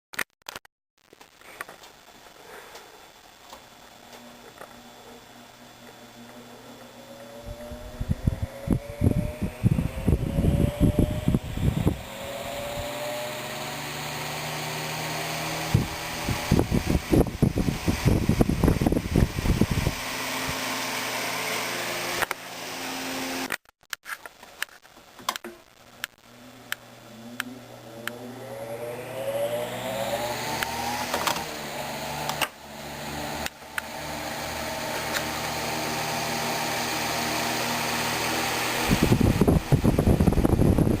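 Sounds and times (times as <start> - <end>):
fan motor humming: 2.4 - 23.6, 26.0 - 41.0.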